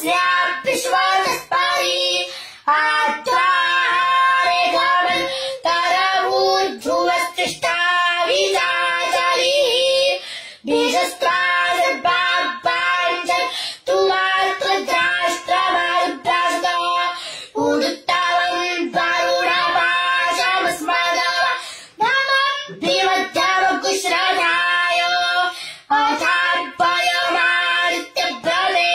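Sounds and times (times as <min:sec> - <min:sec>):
boy chanting: 0:00.0 - 0:28.9.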